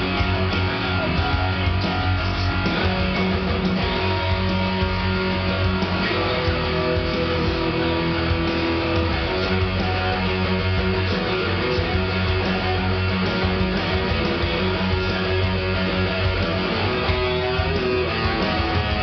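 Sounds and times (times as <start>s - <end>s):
heavy metal electric guitar: 0.0s - 19.0s.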